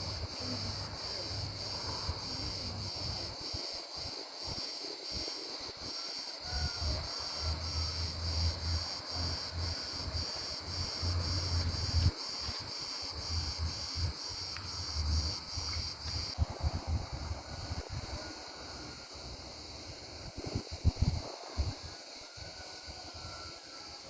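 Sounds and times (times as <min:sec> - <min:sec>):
cicadas chirring: 0:00.0 - 0:24.0.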